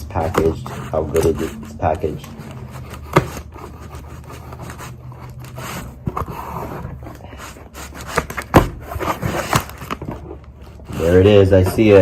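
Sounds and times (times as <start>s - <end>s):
blade cutting cardboard: 0.0s - 12.0s.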